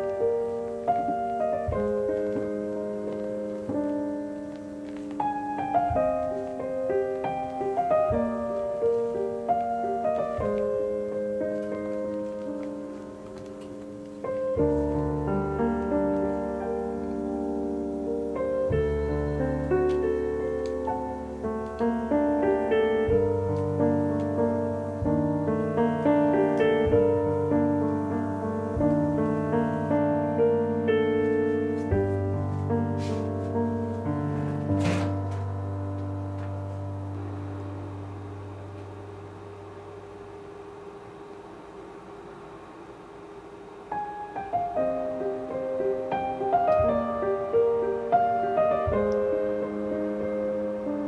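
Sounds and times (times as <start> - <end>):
piano music: 0.0 - 51.0.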